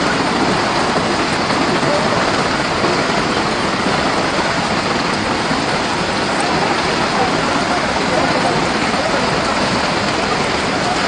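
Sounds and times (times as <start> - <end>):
rain falling steadily: 0.0 - 11.0.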